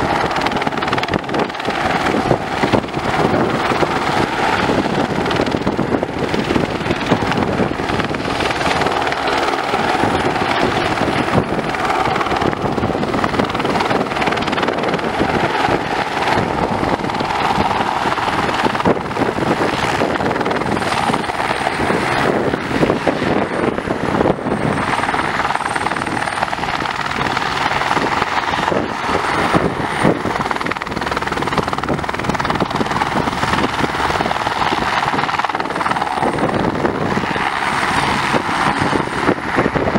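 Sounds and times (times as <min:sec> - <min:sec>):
faint high turbine whine: 0:00.0 - 0:39.9
helicopter rotor beat: 0:00.0 - 0:39.9.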